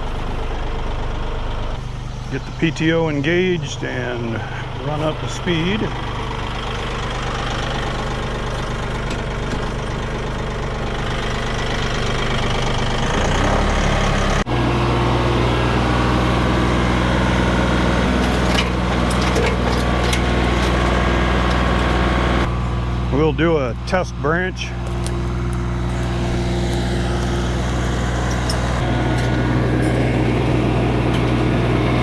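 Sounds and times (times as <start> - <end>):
tractor engine running: 0.0 - 32.0
wood chipper running: 0.0 - 32.0.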